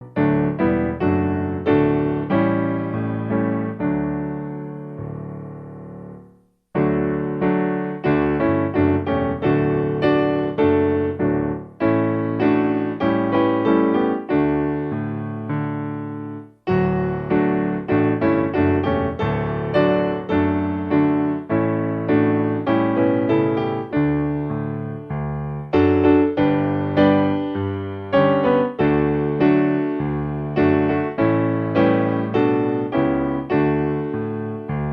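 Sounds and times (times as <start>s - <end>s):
gentle piano melody: 0.0s - 34.9s.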